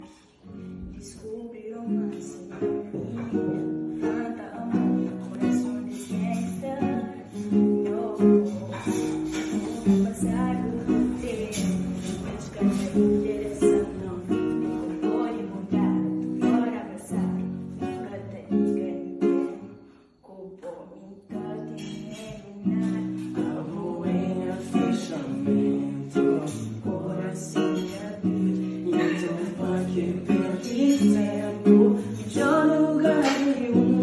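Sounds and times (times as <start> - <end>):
acoustic guitar chords: 0.0 - 34.0.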